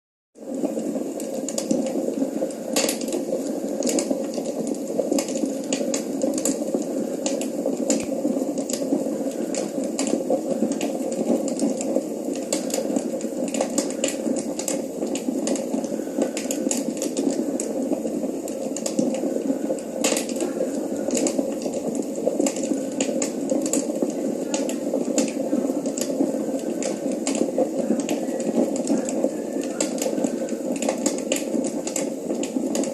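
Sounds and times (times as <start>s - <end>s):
crackling wood fire: 0.4s - 32.9s.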